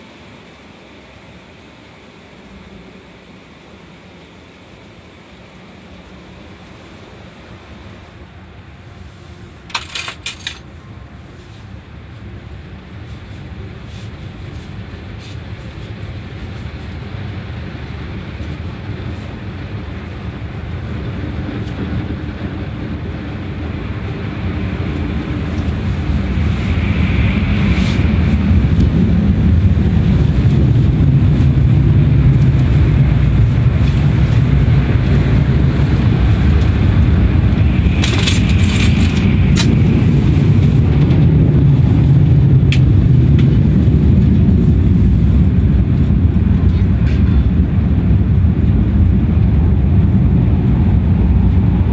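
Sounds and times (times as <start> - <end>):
car wash machinery rumbling: 0.0 - 51.9.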